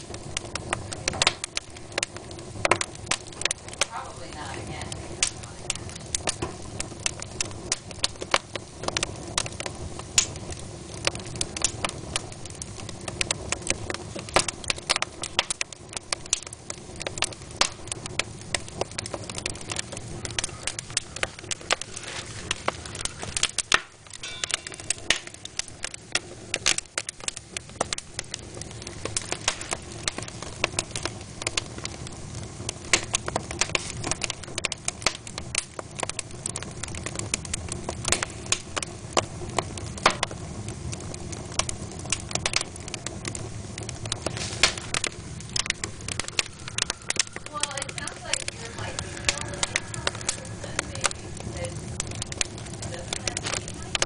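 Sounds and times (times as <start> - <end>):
hiss of burning logs: 0.0 - 54.0
wood fire crackling: 0.0 - 54.0.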